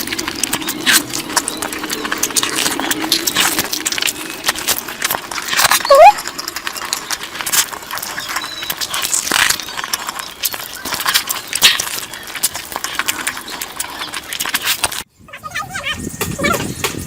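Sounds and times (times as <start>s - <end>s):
wet chewing and lip-smacking: 0.0s - 15.1s.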